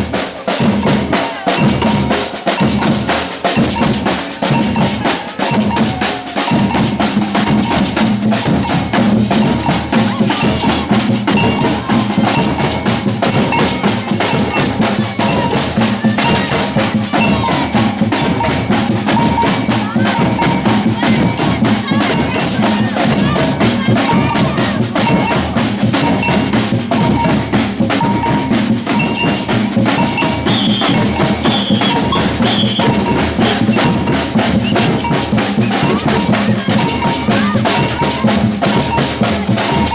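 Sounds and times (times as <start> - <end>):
metal bell strokes: 0.0 - 39.9
samba drums playing: 0.0 - 39.9.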